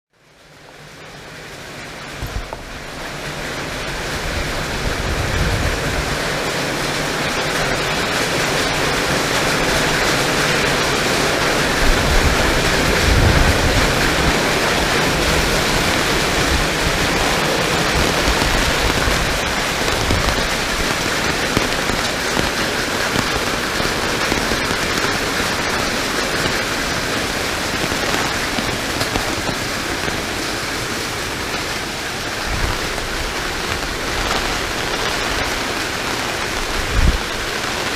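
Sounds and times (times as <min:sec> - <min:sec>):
heavy rain pouring: 0:00.2 - 0:37.9
wind buffeting the microphone: 0:02.2 - 0:37.9.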